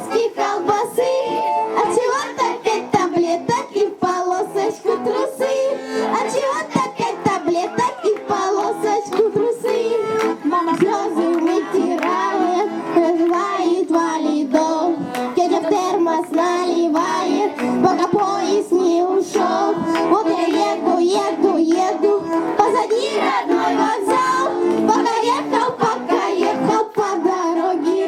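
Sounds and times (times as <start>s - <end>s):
children singing: 0.0s - 28.0s
musical accompaniment: 0.0s - 28.0s.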